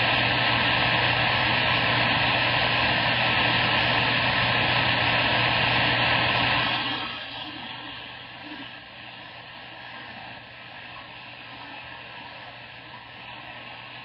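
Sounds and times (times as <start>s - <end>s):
low hum: 0.0s - 14.0s
radio static hiss: 0.0s - 14.0s.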